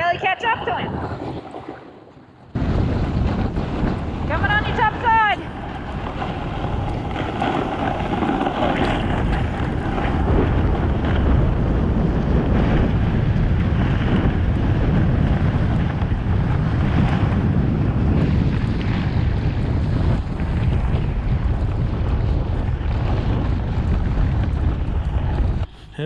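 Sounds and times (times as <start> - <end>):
wind buffeting microphone: 0.0 - 26.0
skis scraping over snow: 2.6 - 25.7.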